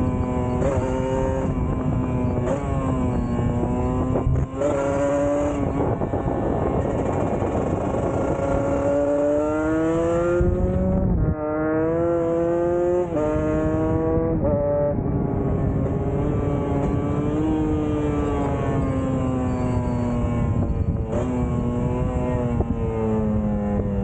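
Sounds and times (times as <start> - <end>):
vehicle engine accelerating: 0.0 - 24.0.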